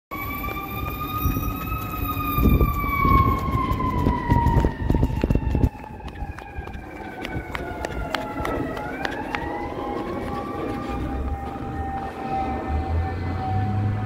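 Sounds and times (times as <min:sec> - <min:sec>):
fire engine siren wailing: 0:00.1 - 0:14.0
wind rumbling on microphone: 0:00.2 - 0:14.0.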